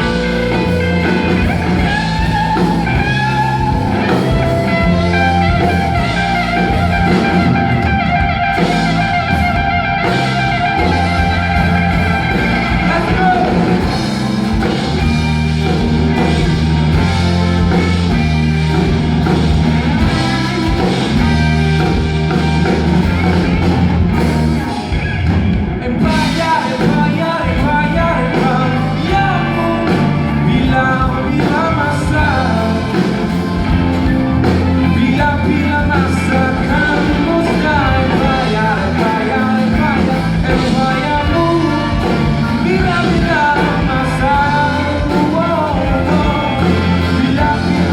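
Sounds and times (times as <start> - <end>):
bass guitar: 0.0 - 47.9
drums: 0.0 - 47.9
electric guitar: 0.0 - 47.9.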